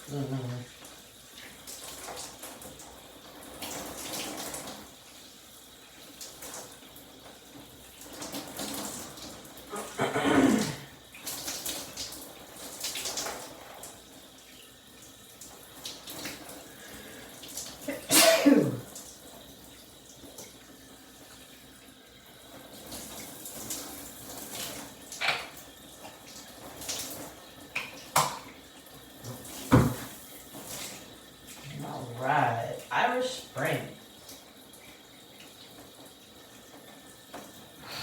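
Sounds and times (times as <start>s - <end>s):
shower spray running: 0.0s - 38.0s.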